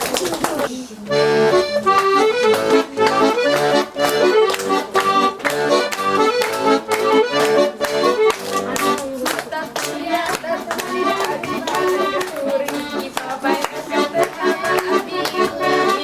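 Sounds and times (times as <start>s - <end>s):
accordion playing dance tune: 0.0s - 16.0s.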